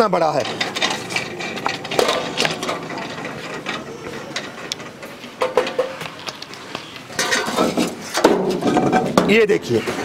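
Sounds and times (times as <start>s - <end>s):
metal clicks and rattles: 0.0s - 9.5s.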